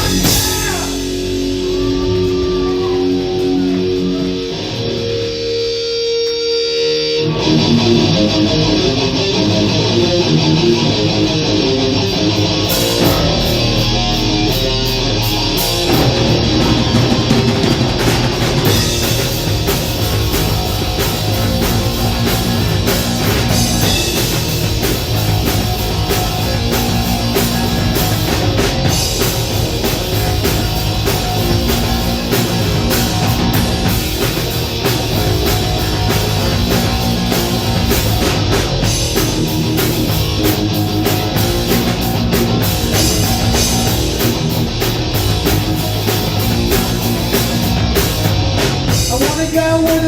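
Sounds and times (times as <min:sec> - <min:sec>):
drum kit: 0:00.0 - 0:09.8, 0:10.7 - 0:50.0
electric guitar: 0:00.0 - 0:50.0.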